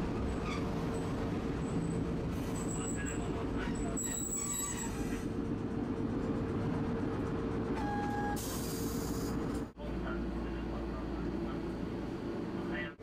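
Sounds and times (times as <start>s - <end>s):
streetcar rumble: 0.0s - 13.0s.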